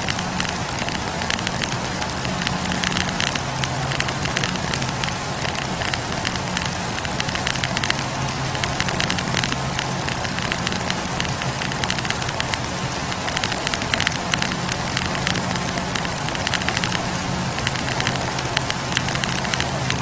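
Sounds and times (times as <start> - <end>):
campfire logs crackling: 0.0 - 20.0
low hum of fire: 0.0 - 20.0.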